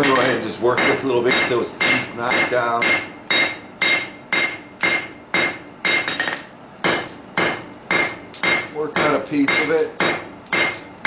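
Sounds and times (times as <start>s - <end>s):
hammer striking steel on anvil: 0.0s - 10.9s.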